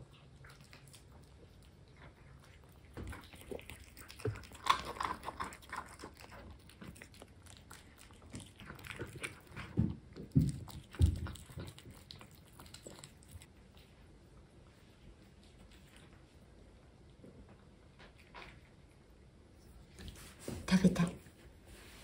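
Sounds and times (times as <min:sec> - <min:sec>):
kittens chewing and licking: 0:00.0 - 0:22.0.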